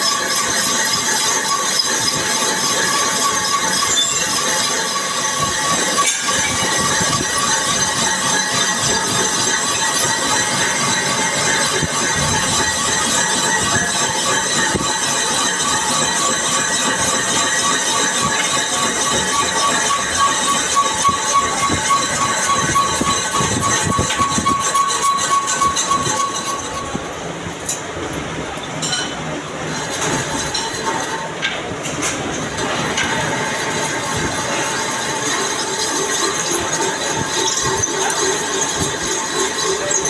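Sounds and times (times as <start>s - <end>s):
lathe cutting metallic screech: 0.0s - 27.3s, 28.8s - 31.4s, 32.3s - 40.0s.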